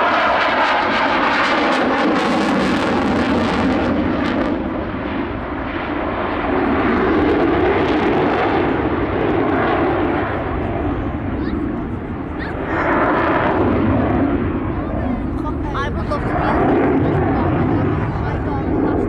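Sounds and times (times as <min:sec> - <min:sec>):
jet engines flying past: 0:00.0 - 0:19.0.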